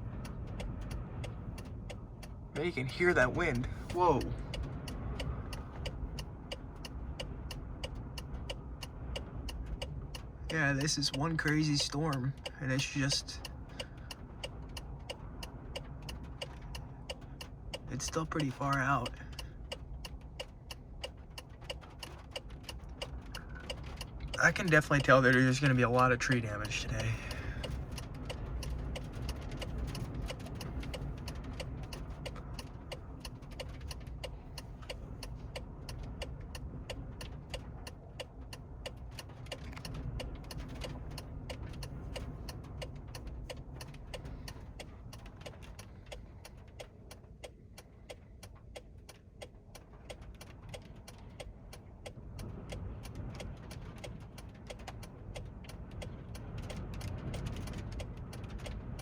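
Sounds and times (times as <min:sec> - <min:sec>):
rain and grit ticking on truck: 0:00.0 - 0:59.0.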